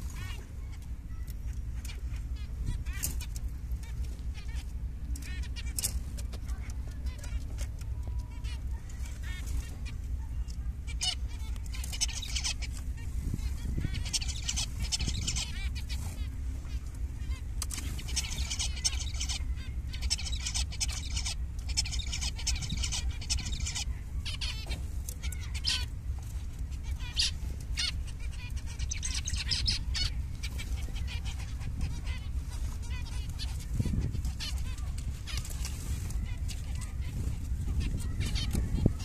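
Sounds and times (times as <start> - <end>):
finches calling: 0.0 - 39.0
steady low rumble: 0.0 - 39.0.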